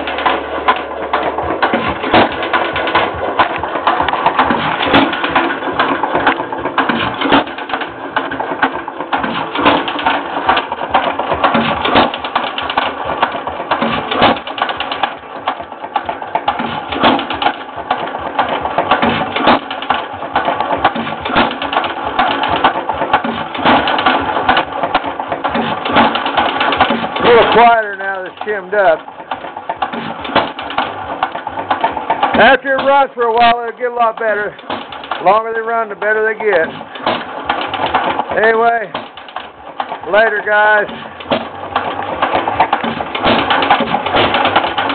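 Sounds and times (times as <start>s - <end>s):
gas engine clattering: 0.0s - 44.9s.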